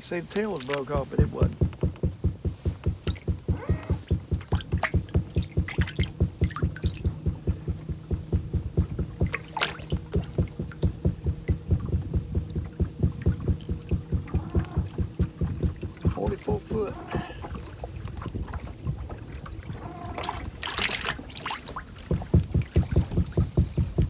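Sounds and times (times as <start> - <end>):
constant hum: 0.0 - 24.0
low mechanical throbbing: 0.0 - 24.0.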